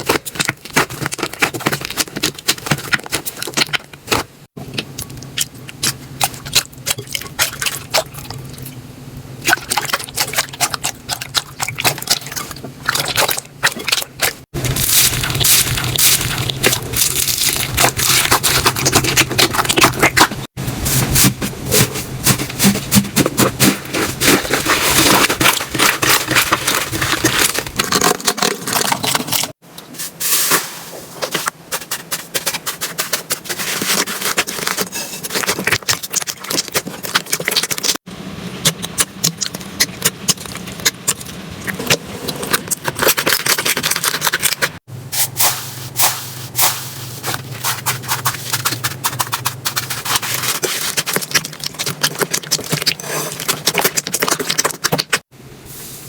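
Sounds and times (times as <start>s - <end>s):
slime squishing and crackling: 0.0s - 8.6s, 9.4s - 29.6s, 31.2s - 38.0s, 38.6s - 44.9s, 45.5s - 55.3s.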